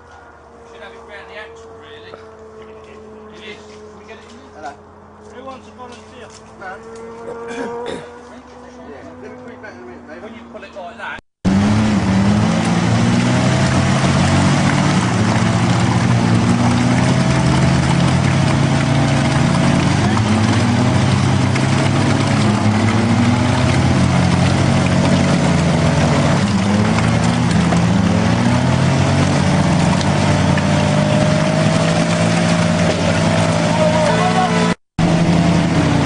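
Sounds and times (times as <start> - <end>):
engine revving: 0.0 - 36.0.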